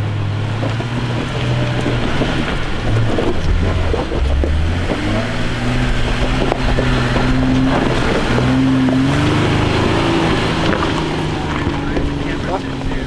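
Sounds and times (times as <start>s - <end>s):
truck engine revving under load: 0.0s - 13.0s.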